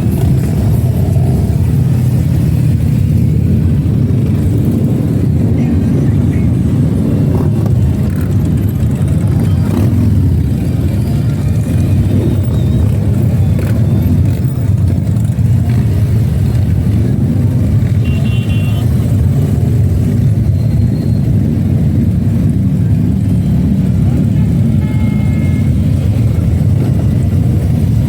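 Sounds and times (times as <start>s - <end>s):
motorcycle engines rumbling: 0.0s - 28.0s.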